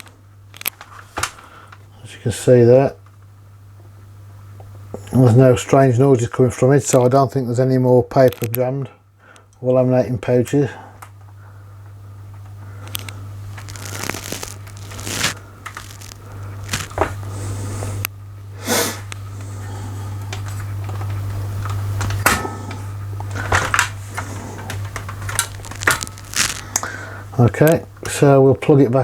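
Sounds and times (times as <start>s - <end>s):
laminator motor humming: 0.0s - 29.0s.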